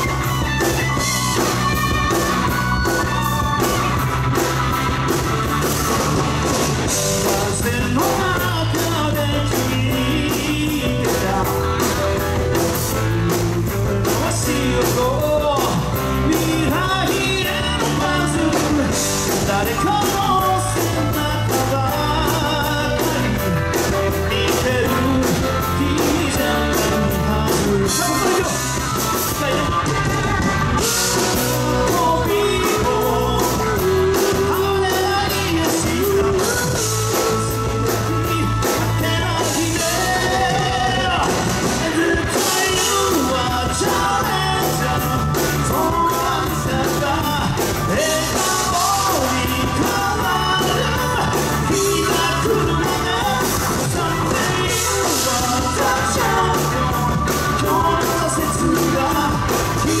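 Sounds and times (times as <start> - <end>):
person singing: 0.0 - 60.0
rock band playing live: 0.0 - 60.0.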